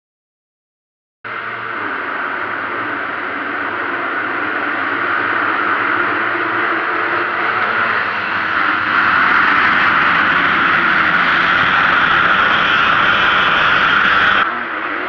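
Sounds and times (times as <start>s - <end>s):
motocross bikes accelerating: 1.3s - 14.4s.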